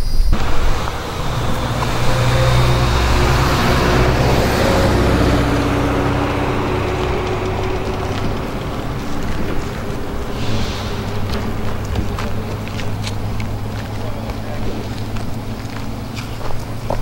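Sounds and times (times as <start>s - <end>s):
road noise: 0.3s - 17.0s
vehicle engine hum: 0.3s - 17.0s.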